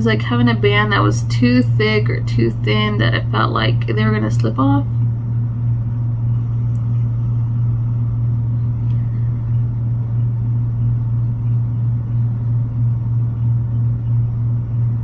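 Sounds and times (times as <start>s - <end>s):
steady low hum with rumble: 0.0s - 15.0s.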